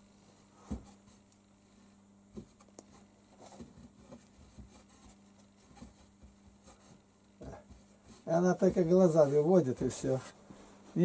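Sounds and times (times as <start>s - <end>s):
low steady hum: 0.0s - 11.0s
faint scratching: 0.3s - 11.0s.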